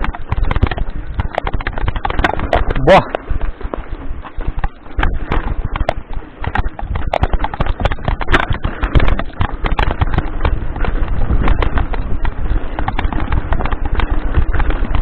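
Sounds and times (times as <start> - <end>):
bike wheels knocking on rocks: 0.0 - 15.0.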